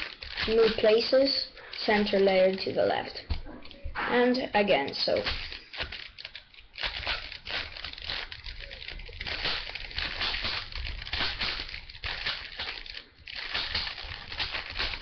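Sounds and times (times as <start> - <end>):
puzzle cube clicking turns: 0.0 - 15.0.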